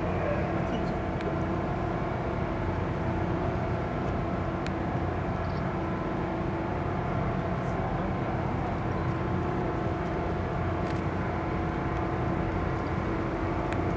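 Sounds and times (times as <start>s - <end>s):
ship engine drone: 0.0s - 13.9s.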